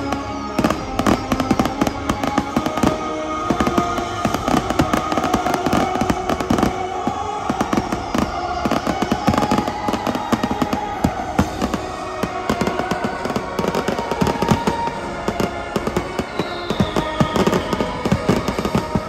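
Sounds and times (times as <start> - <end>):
falling firework whistle: 0.0 - 19.0
fireworks bangs and crackles: 0.0 - 19.0
music with long held notes: 0.0 - 19.0.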